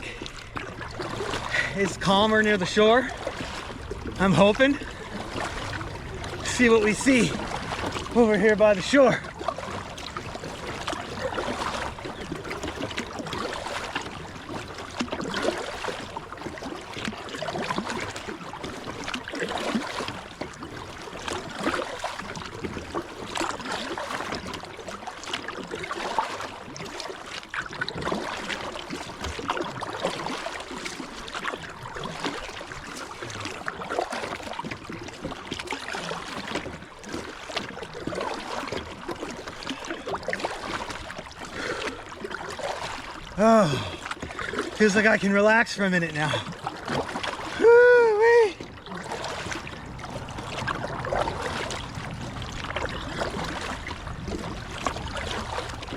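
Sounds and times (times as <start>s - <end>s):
paddle strokes splashing: 0.0s - 55.9s
water gurgling and rushing: 0.0s - 55.9s.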